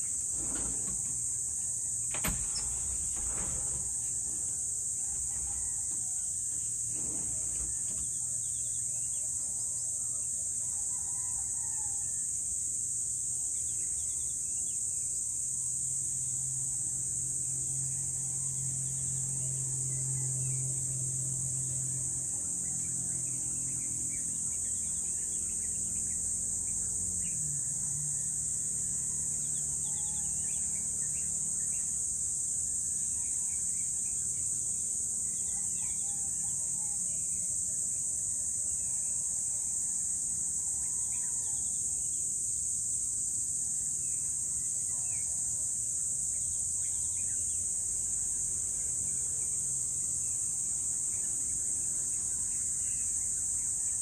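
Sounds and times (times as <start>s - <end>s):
high-pitched insect drone: 0.9s - 54.0s.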